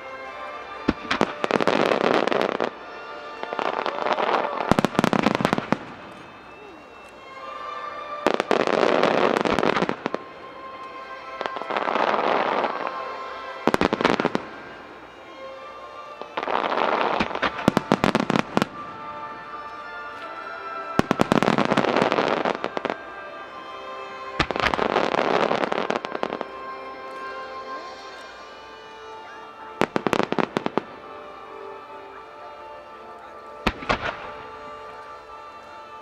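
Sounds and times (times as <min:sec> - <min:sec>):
fireworks crackling: 0:00.0 - 0:36.0
music: 0:00.0 - 0:36.0.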